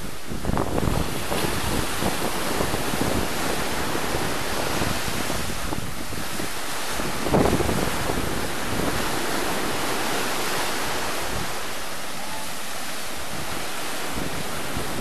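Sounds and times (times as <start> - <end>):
sea waves breaking on rocks: 0.0 - 15.0.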